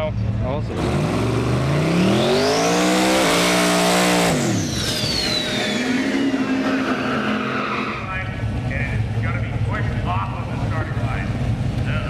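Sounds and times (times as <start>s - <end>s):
drag car engine accelerating: 0.5s - 12.0s
high turbo whine: 0.5s - 12.0s.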